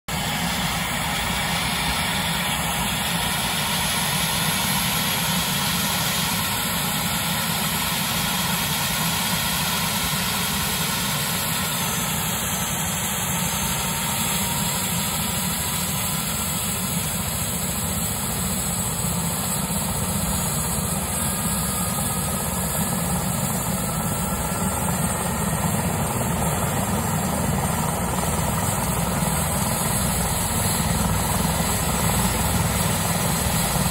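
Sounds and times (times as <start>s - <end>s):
helicopter turbine and rotor: 0.1s - 33.9s.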